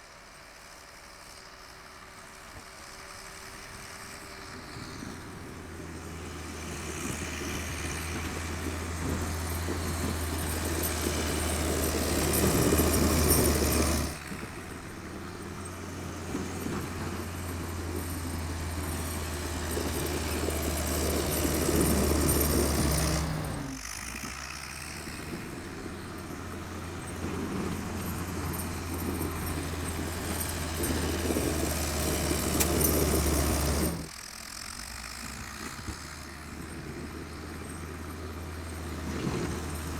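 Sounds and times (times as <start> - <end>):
tractor engine droning: 3.6 - 39.9.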